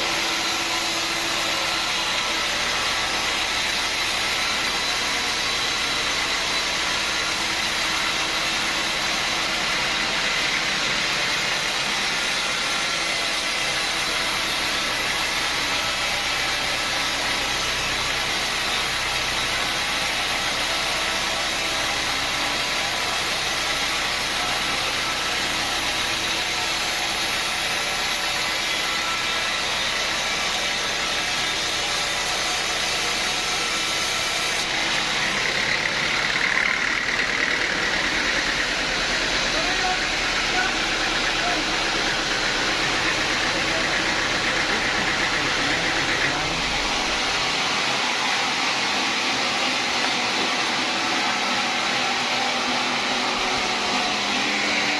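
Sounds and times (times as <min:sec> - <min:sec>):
sawmill machinery drone: 0:00.0 - 0:54.9.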